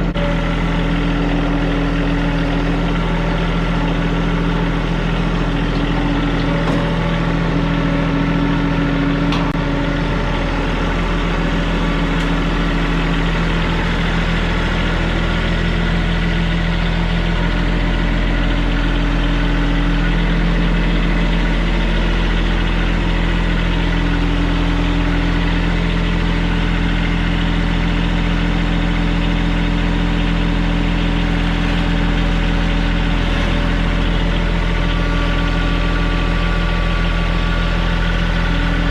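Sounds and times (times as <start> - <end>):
tractor diesel engine humming: 0.0 - 38.9.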